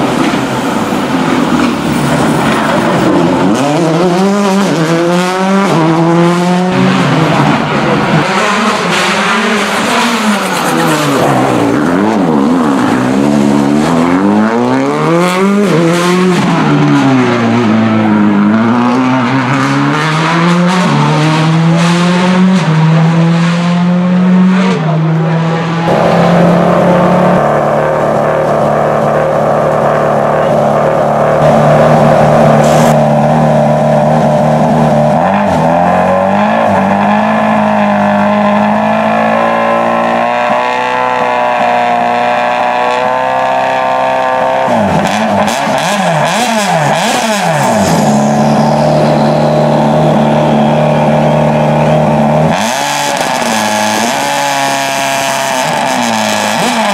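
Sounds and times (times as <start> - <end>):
rally car engine passing at speed: 0.0 - 56.9.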